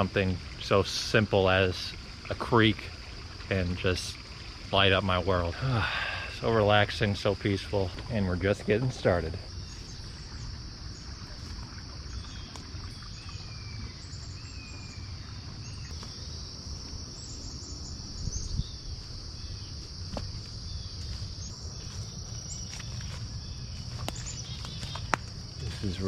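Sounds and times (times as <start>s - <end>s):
crickets chorus: 0.0s - 26.0s.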